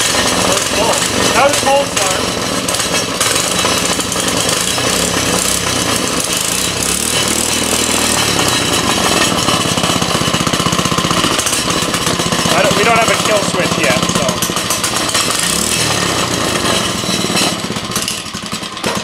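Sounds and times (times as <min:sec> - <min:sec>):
small four-stroke engine running: 0:00.0 - 0:19.0.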